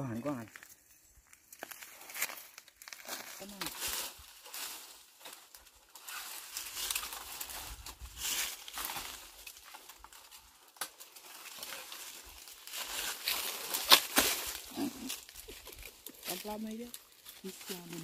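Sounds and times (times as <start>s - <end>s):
dry leaves rustling and crackling: 1.3s - 18.0s.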